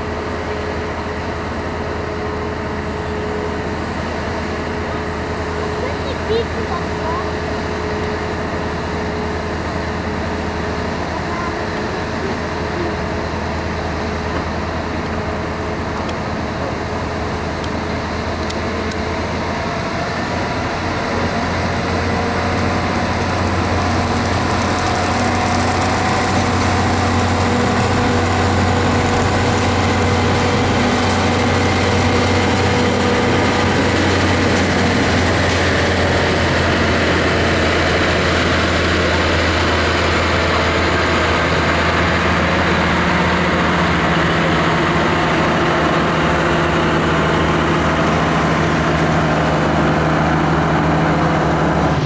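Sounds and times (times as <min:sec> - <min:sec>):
diesel locomotive engine drone: 0:00.0 - 0:52.0.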